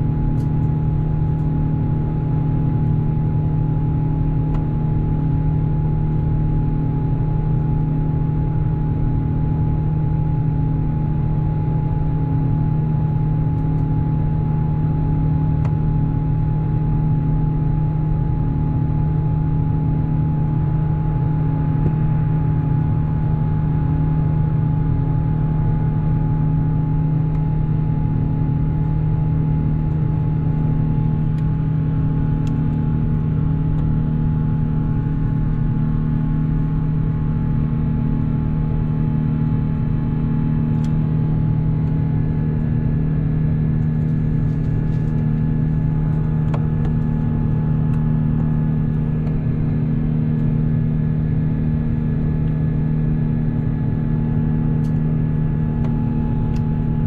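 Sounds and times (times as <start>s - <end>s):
airplane cabin drone: 0.0s - 57.0s
faint steady whine: 0.0s - 57.0s.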